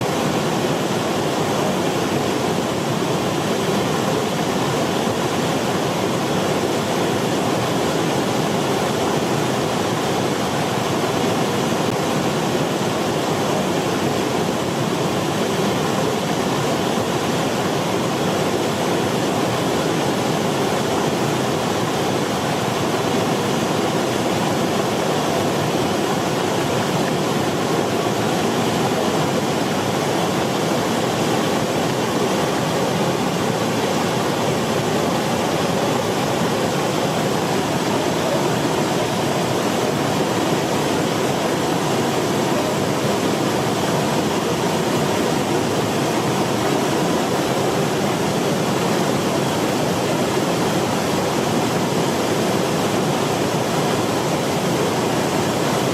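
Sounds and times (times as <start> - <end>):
steady rushing noise: 0.0 - 55.9.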